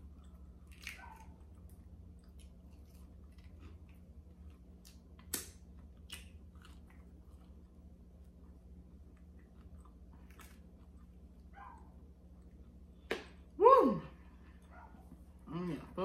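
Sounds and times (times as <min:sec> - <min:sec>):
person chewing fried food: 0:00.0 - 0:13.1
steady low hum: 0:00.0 - 0:16.0.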